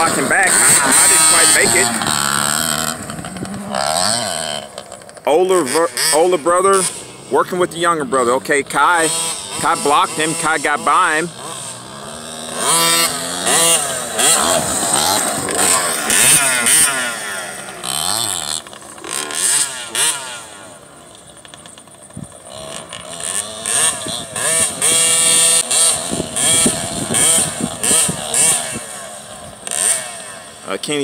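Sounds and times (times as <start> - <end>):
dirt bikes revving: 0.0 - 31.0.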